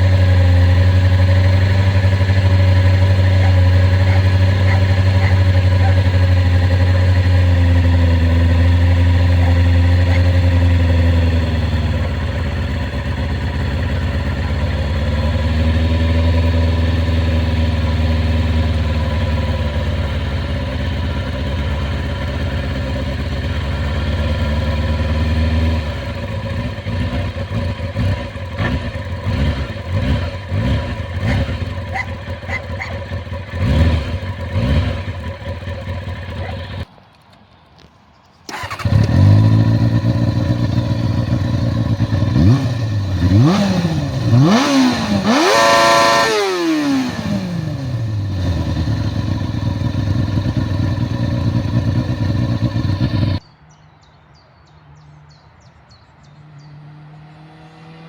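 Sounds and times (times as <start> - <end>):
engine throttle blips: 0.0 - 36.9, 38.5 - 53.4
motorcycle engine idling: 0.0 - 36.9, 38.5 - 53.4.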